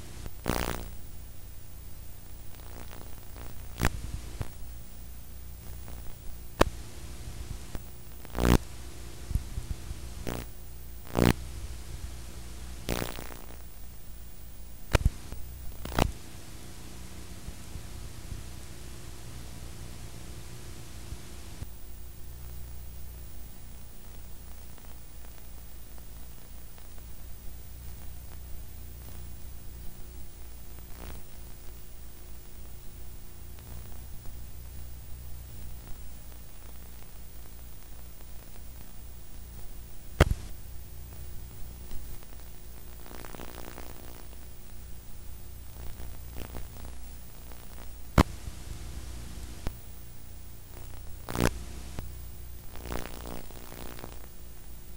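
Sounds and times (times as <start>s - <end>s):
low electrical hum: 0.0s - 54.9s
tape hiss: 0.0s - 54.9s.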